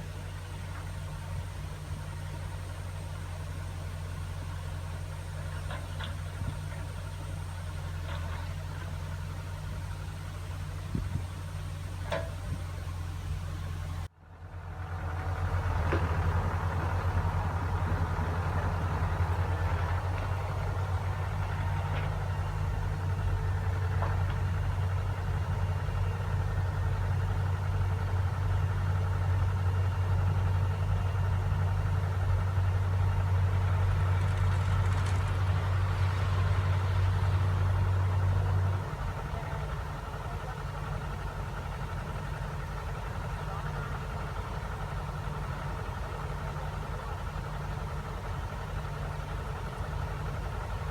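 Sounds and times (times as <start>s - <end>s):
farm machine engine humming: 0.0s - 50.9s.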